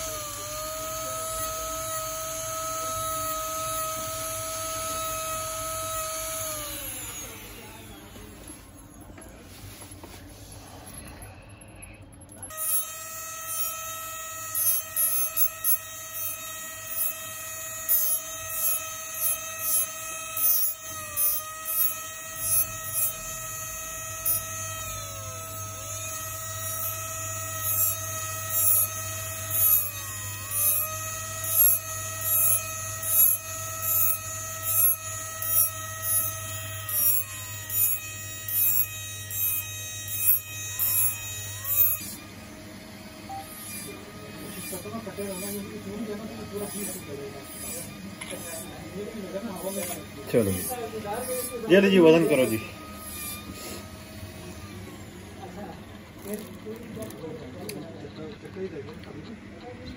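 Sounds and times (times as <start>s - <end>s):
bur cutting metal: 0.0s - 59.9s
rotary handpiece whining: 0.0s - 59.9s.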